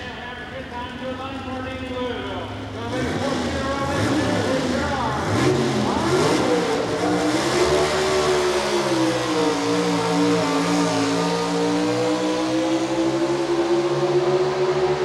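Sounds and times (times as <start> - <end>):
pulling truck engine at full power: 2.6 - 15.0.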